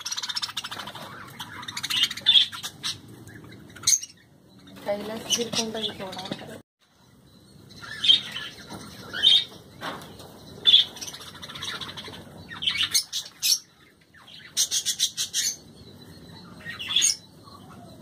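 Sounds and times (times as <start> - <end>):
loud bird calls: 0.0 - 18.0.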